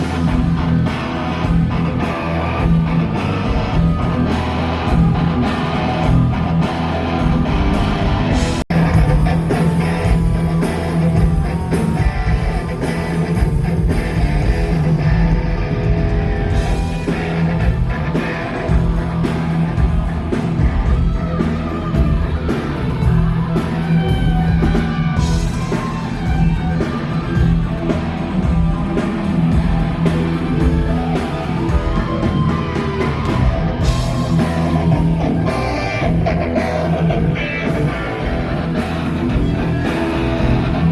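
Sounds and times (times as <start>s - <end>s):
electric guitar lead: 0.0s - 40.9s
live rock band playing: 0.0s - 40.9s.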